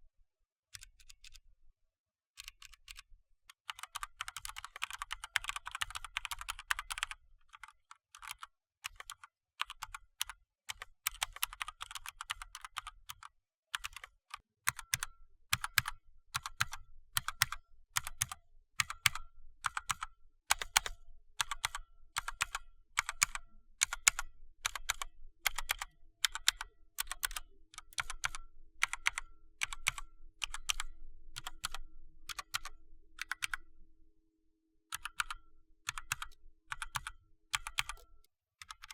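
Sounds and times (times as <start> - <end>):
mechanical keyboard typing: 3.6 - 10.0, 10.7 - 13.2, 14.7 - 33.6, 34.9 - 38.9.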